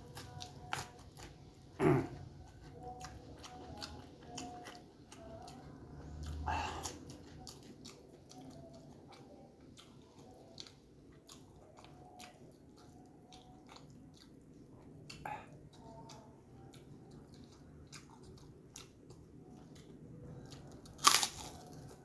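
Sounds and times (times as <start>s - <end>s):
person chewing soft food: 0.0s - 22.0s.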